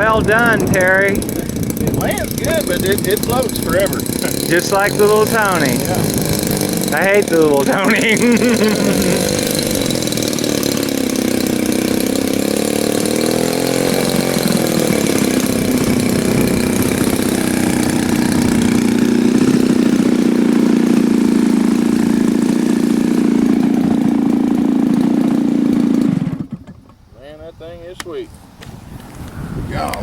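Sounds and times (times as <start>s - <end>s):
model airplane engine idling: 0.0s - 27.0s.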